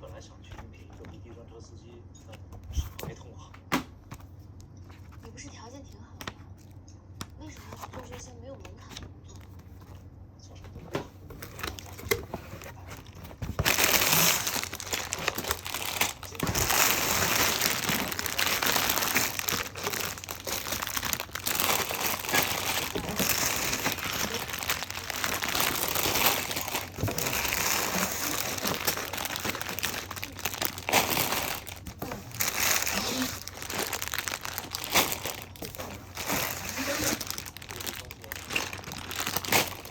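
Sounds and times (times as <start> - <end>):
crinkling and rustling: 2.2 - 39.9.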